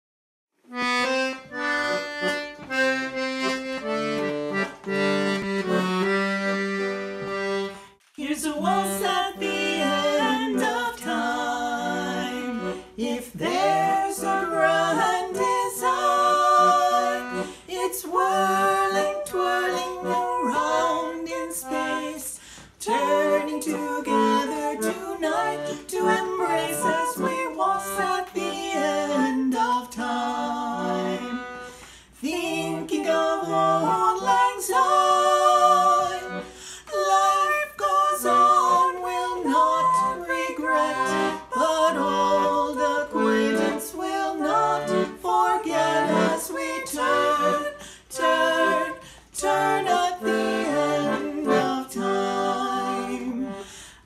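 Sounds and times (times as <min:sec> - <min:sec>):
accordion playing a waltz: 0:00.7 - 0:54.0
two women singing a duet: 0:08.2 - 0:54.0.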